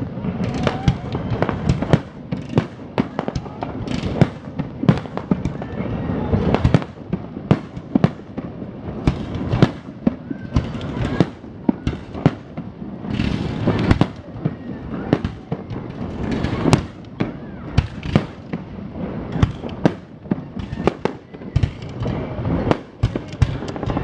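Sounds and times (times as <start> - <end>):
fireworks bangs: 0.0 - 24.0
rumble from fireworks bursts: 0.0 - 24.0.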